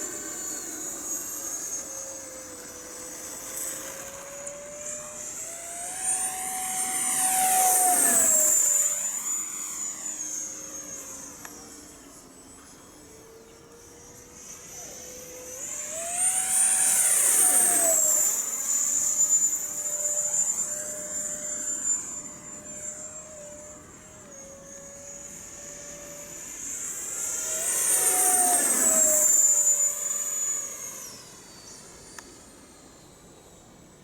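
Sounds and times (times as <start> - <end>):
model jet fan whine flying past: 0.0 - 34.0.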